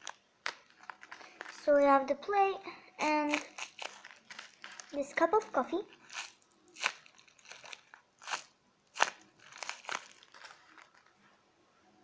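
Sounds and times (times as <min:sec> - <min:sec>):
paper crinkling: 0:00.0 - 0:02.0, 0:03.0 - 0:11.3.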